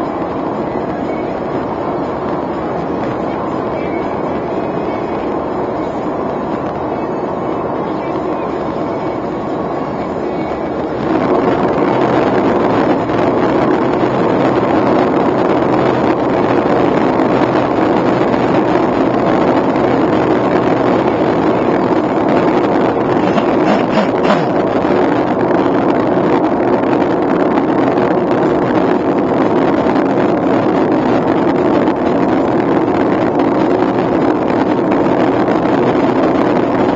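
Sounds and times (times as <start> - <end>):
car road and engine noise: 0.0 - 36.9.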